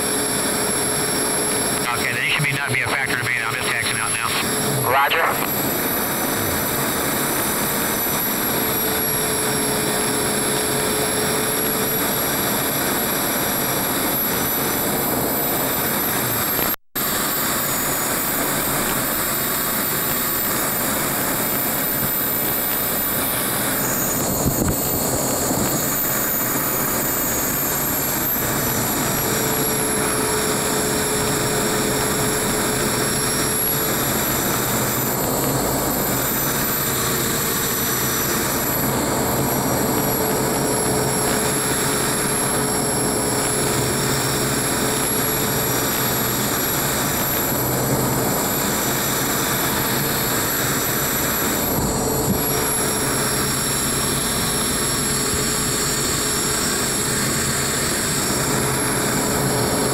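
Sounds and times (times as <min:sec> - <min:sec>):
small jet engine whine: 0:00.0 - 0:59.9.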